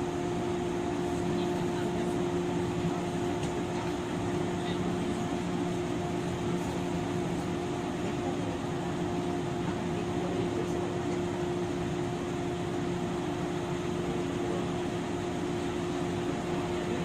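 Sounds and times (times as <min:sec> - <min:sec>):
train equipment hum and fan: 0:00.0 - 0:17.0.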